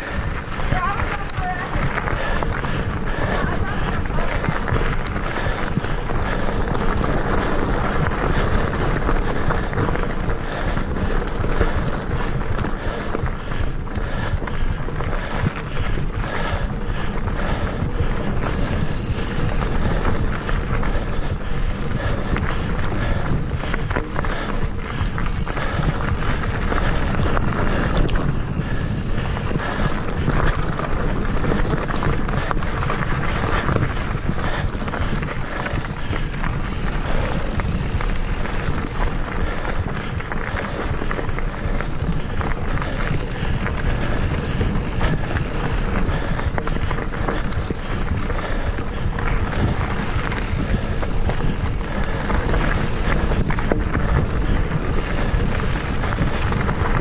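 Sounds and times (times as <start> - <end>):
bike rattling and knocking: 0.0 - 57.0
tyres rolling over dirt and leaves: 0.0 - 57.0
wind rush on microphone: 0.0 - 57.0.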